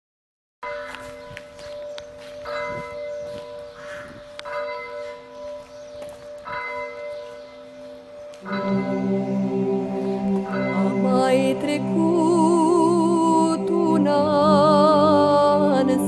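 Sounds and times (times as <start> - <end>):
church bell tolling: 0.6 - 14.7.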